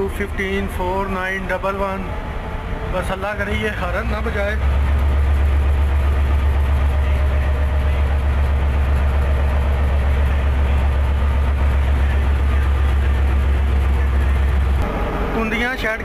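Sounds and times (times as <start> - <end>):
locomotive diesel engine throbbing: 0.0 - 16.0.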